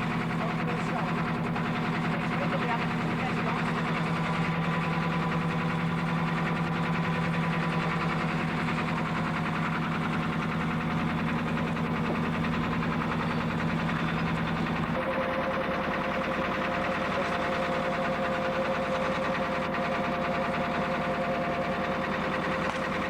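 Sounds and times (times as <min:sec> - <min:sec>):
boat engine throbbing: 0:00.0 - 0:23.0.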